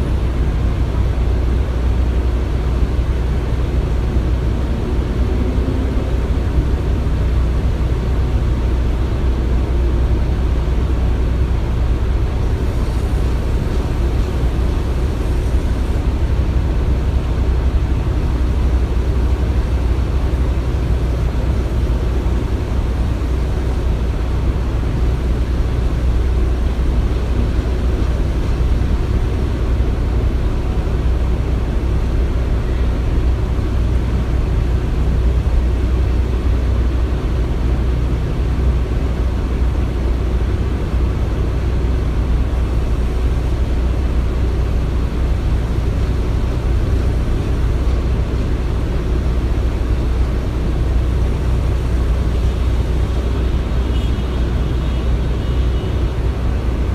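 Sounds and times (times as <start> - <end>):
low machinery rumble: 0.0 - 56.9.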